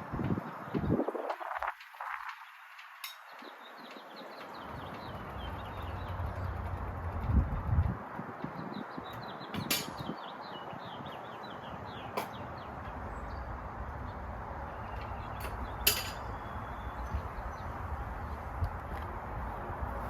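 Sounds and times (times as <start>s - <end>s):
steady outdoor hum: 0.0s - 20.0s
small birds chirping: 0.3s - 20.0s.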